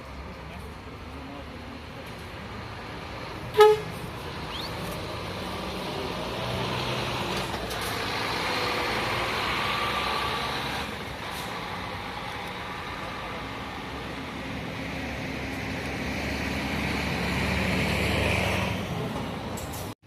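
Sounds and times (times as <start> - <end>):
bus diesel engine passing: 0.0 - 20.0.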